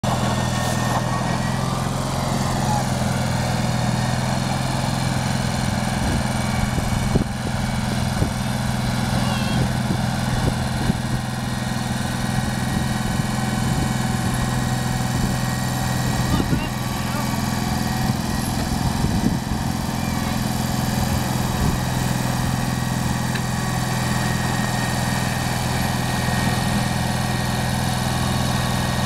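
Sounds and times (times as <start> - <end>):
garden tractor engine running: 0.0 - 29.0.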